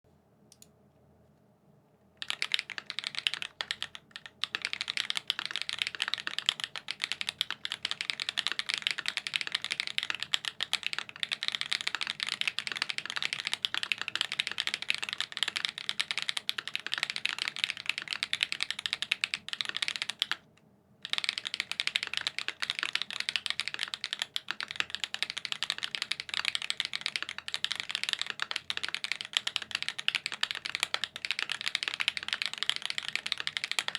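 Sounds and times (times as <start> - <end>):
fast typing on mechanical keyboard: 2.2 - 20.4, 21.0 - 33.9.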